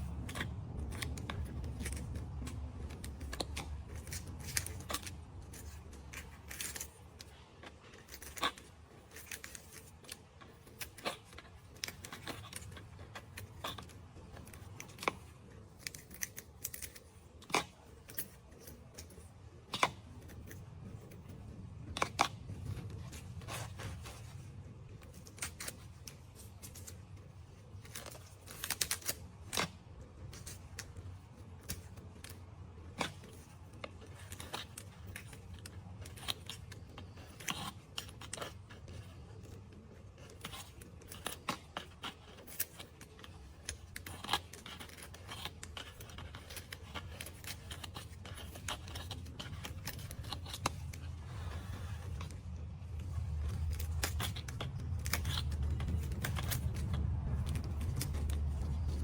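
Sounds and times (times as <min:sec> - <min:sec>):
low steady hum: 0:00.0 - 0:59.0
small clicks and snips: 0:00.1 - 0:23.0, 0:25.0 - 0:59.0.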